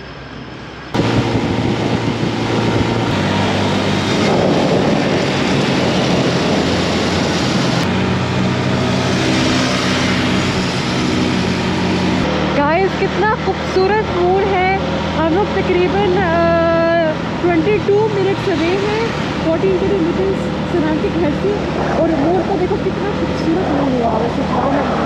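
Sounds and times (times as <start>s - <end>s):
wind rushing over microphone: 0.3s - 25.0s
motorcycle engine running: 0.9s - 25.0s.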